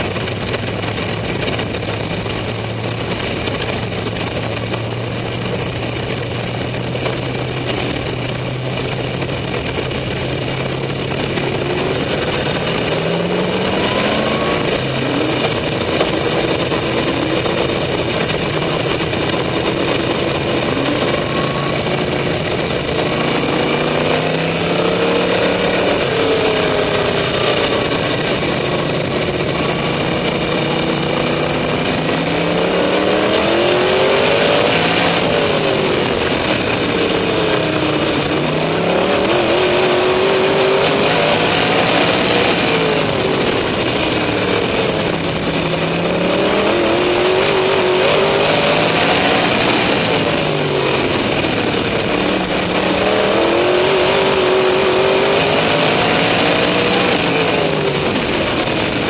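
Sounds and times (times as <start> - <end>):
other race car engines: 0.0 - 59.0
race car engine revving: 0.0 - 59.0.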